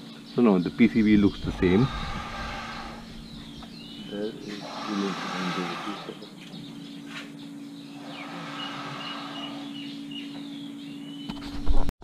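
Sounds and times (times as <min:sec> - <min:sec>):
birds chirping: 0:00.0 - 0:11.6
low mechanical hum: 0:00.0 - 0:11.9.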